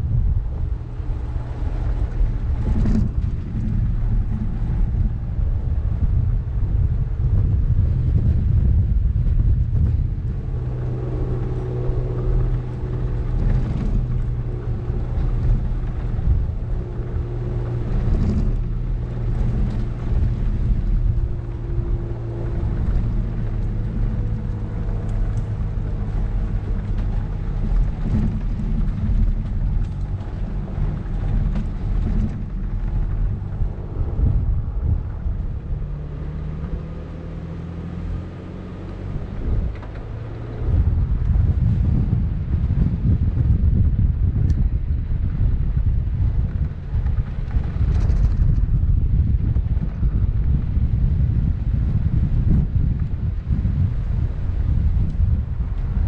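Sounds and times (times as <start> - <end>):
tyres rumbling on gravel: 0.0 - 56.0
vehicle engine drone: 0.0 - 56.0
wind on microphone: 0.0 - 56.0.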